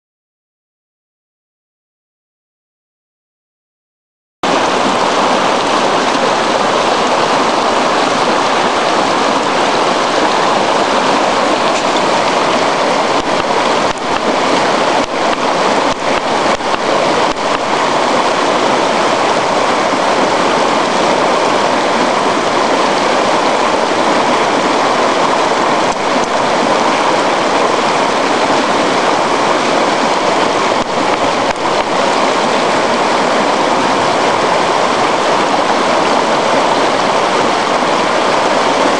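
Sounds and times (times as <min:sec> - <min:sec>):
river water rushing: 0:04.4 - 0:38.9.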